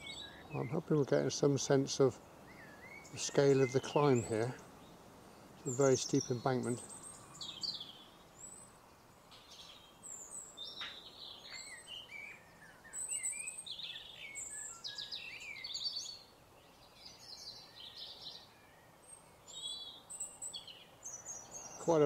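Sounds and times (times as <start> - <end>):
songbirds singing and calling: 0.0 - 22.0.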